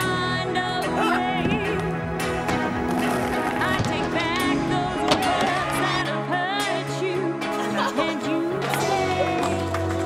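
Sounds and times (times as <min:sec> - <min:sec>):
pop music with singing: 0:00.0 - 0:10.0.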